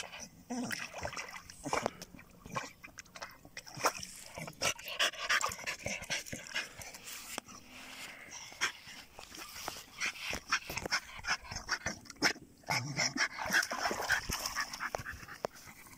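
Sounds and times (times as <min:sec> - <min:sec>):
water splashing: 0:00.0 - 0:07.0, 0:08.7 - 0:15.9.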